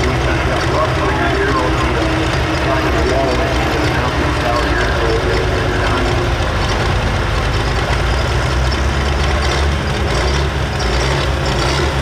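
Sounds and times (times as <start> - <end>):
diesel tractor idling: 0.0 - 12.0.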